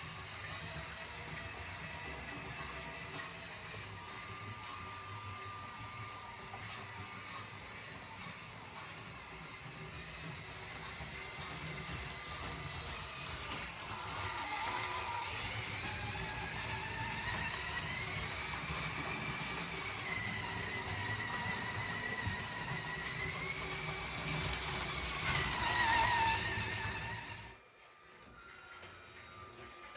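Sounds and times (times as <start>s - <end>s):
toy train wheels rattling: 0.0s - 27.6s
small electric motor whine: 0.0s - 29.9s.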